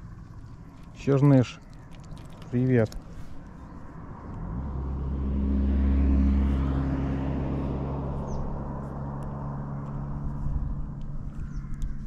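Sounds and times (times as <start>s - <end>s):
engine passing by: 2.1s - 12.0s.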